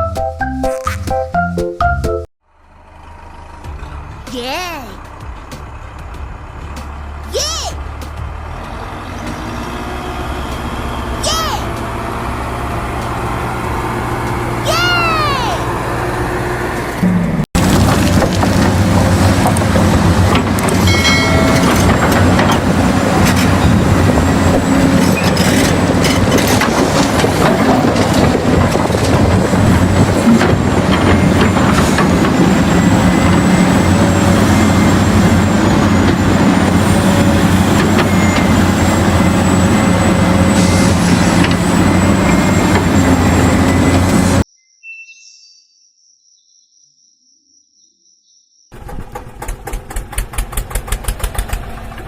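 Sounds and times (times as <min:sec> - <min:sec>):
heavy diesel machinery running: 0:02.4 - 0:44.5, 0:48.8 - 0:52.0.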